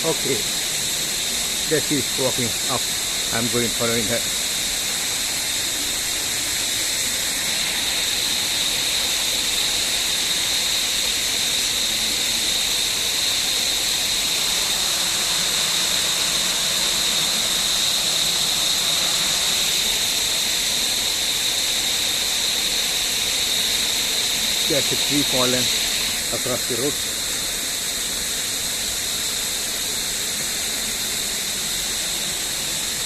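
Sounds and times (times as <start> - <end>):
constant hiss: 0.0 - 33.0
jungle insects shrilling: 0.0 - 33.0.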